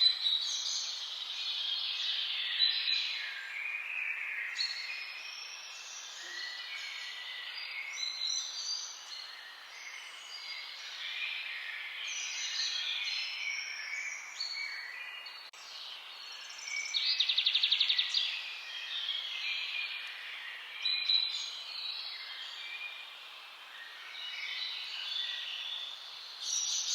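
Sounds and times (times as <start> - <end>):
songbirds chirping and whistling: 0.0 - 26.9.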